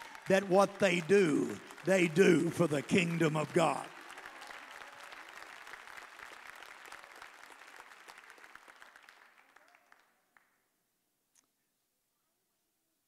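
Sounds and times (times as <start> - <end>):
congregation applauding: 0.0 - 10.6.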